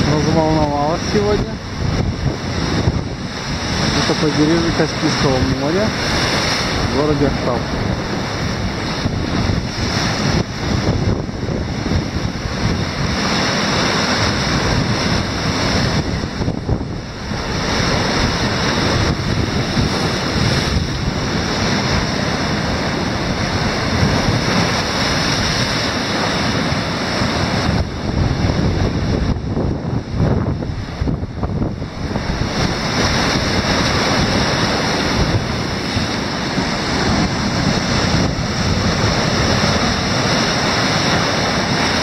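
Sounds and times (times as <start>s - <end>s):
sea surf crashing on rocks: 0.0s - 42.0s
wind buffeting microphone: 0.0s - 42.0s.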